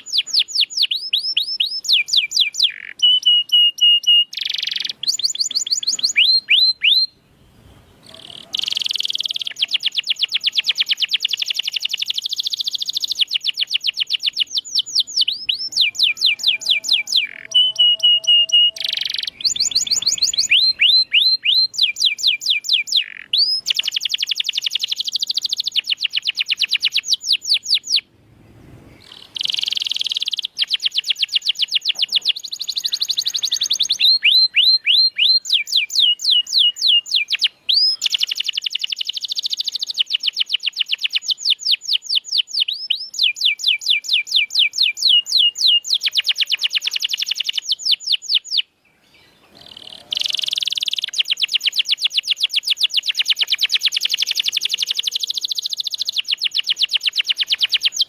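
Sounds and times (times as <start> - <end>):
canary singing trills: 0.0 - 28.1, 28.9 - 58.0.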